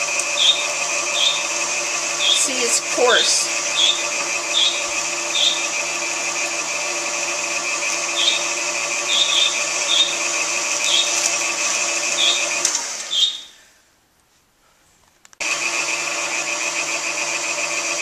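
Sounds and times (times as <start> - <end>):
mixer motor hum: 0.0 - 13.3, 15.4 - 18.0.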